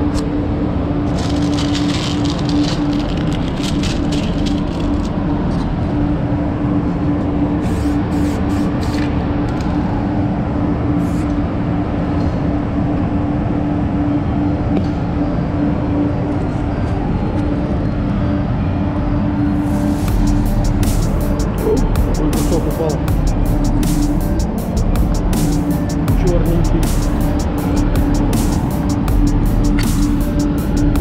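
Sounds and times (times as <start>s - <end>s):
low hum: 0.0s - 31.0s
ventilation air rushing: 0.0s - 31.0s.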